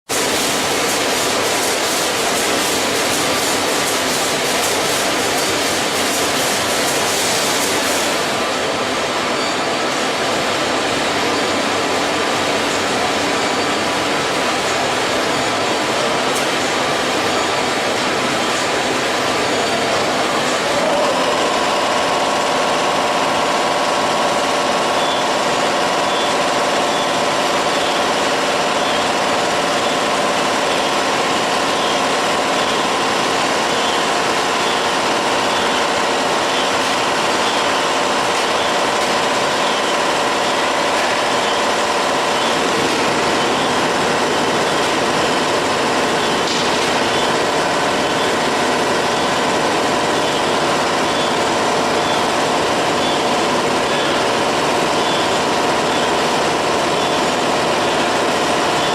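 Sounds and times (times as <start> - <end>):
packaging machine humming: 0.1 - 58.9.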